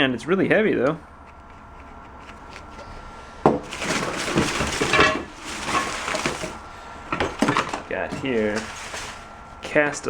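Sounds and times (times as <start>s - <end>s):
objects clattering and rustling: 1.2s - 10.0s.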